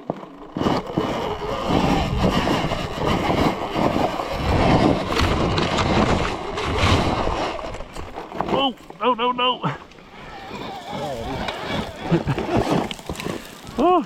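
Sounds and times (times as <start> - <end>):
electric dirt bike riding on dirt: 0.0 - 14.0.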